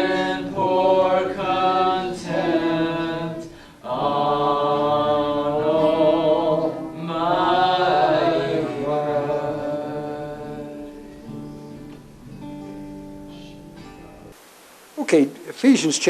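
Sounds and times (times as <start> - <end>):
person singing worship music: 0.0 - 14.3.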